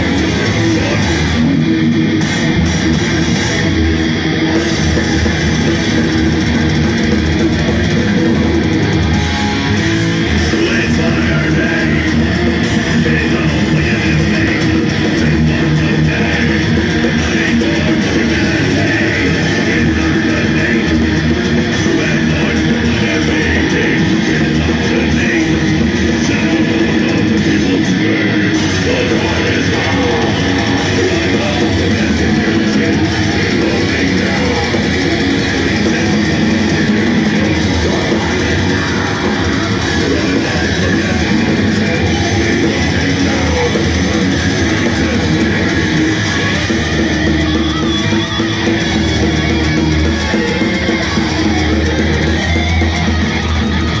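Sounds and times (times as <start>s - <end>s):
metal band playing live: 0.0s - 54.0s.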